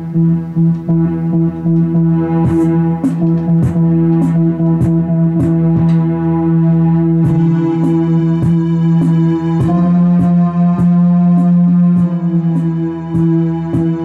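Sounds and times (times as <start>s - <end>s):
held drone chord: 0.0s - 14.0s
percussive beat: 0.2s - 14.0s.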